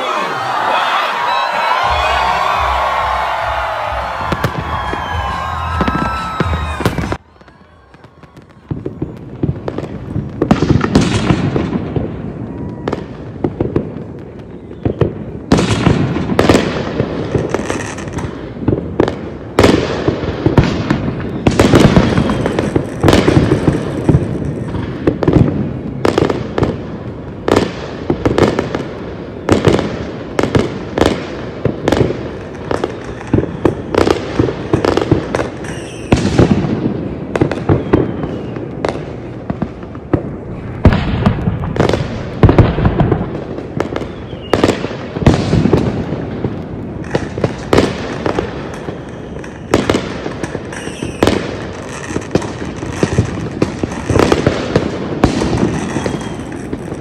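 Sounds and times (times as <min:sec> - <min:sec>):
fireworks bangs with crackling: 0:00.1 - 0:57.0.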